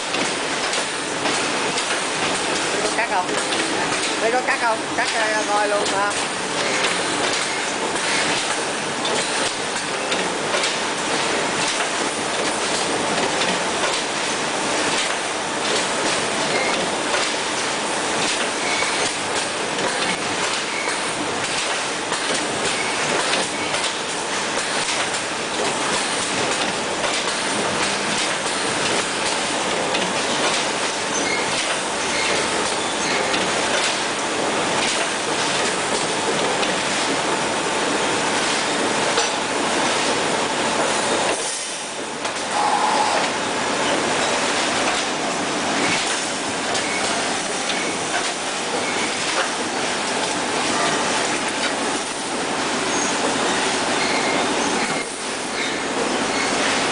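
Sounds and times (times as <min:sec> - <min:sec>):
welding machine clattering: 0:00.0 - 0:42.5, 0:43.2 - 0:56.9.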